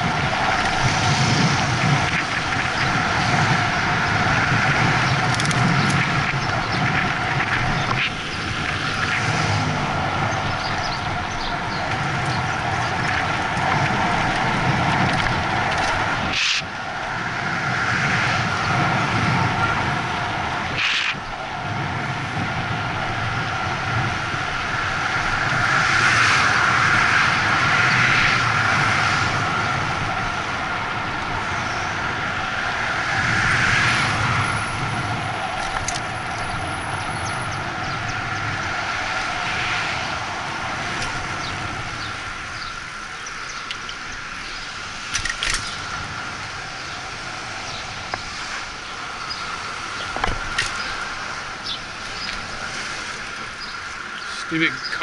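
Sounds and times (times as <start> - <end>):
bicycle tyre noise: 0.0 - 55.0
motor traffic passing: 0.0 - 55.0
wind rushing over microphone: 0.0 - 55.0.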